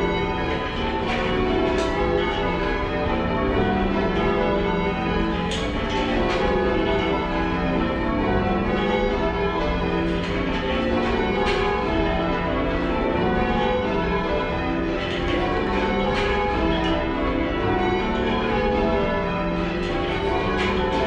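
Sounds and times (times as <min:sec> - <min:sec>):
church bells change ringing: 0:00.0 - 0:21.0.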